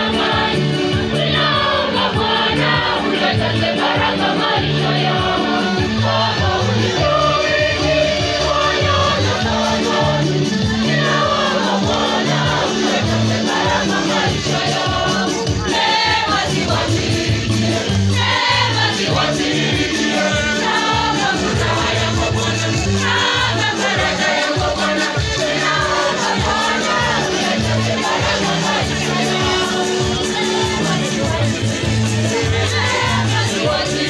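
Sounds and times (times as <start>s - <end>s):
choir singing gospel: 0.0s - 34.0s
keyboard bass line: 0.0s - 34.0s.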